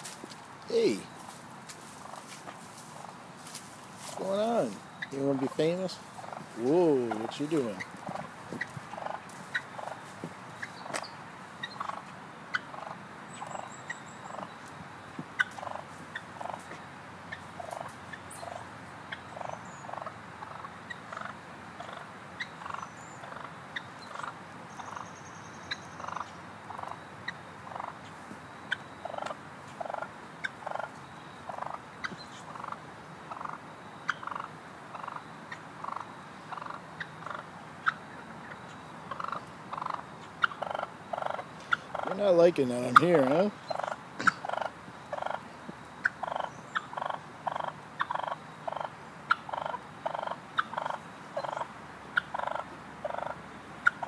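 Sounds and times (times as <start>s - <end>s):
wild turkey calling: 0.0s - 54.0s.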